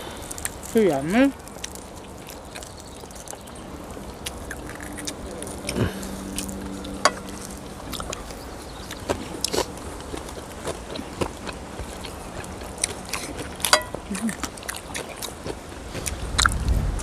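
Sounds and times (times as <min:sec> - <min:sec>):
crunching and chewing crispy food: 0:00.0 - 0:17.0
faint low hum: 0:00.0 - 0:17.0.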